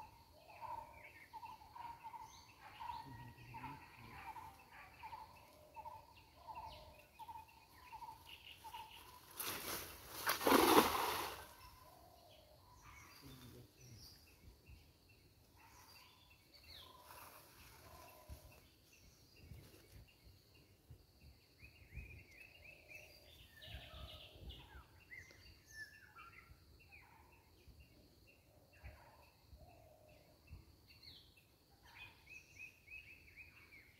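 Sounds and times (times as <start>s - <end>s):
insects: 0.0s - 33.9s
small birds chirping: 0.0s - 33.9s.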